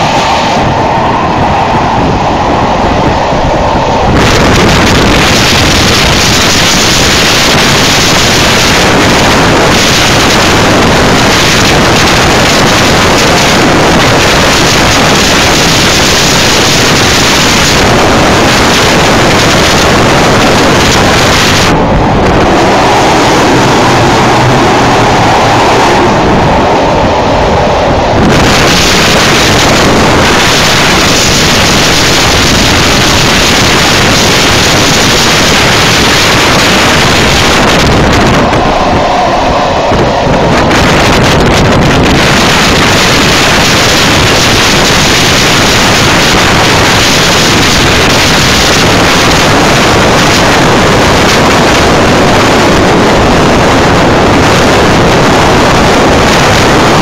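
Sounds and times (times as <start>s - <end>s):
train running noise: 0.0s - 57.0s
wind rushing over microphone: 0.0s - 57.0s.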